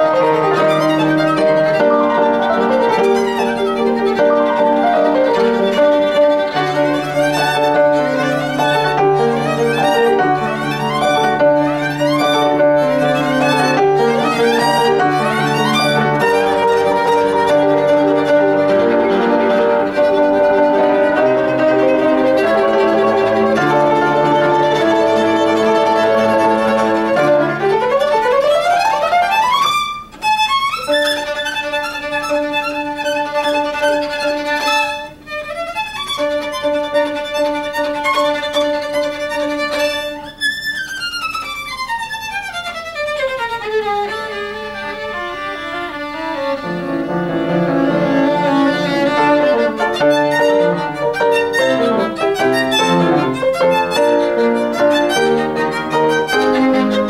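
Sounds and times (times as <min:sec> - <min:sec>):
piano accompaniment: 0:00.0 - 0:57.0
violin playing fast passage: 0:00.0 - 0:57.0.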